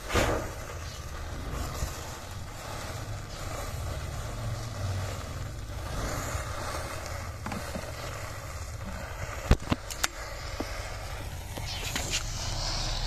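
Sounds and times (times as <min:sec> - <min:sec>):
faint crackles: 0:00.0 - 0:13.0
rushing flame: 0:00.0 - 0:13.0.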